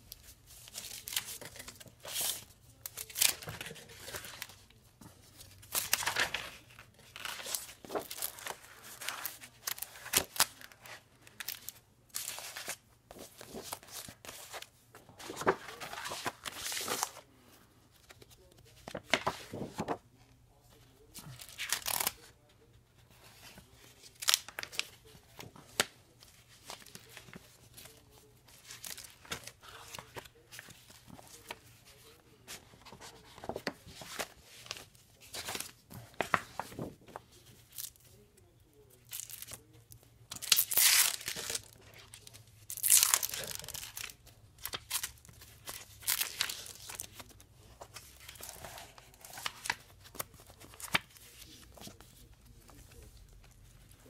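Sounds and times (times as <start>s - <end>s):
plastic sheets and pages crinkling: 0.0s - 54.0s.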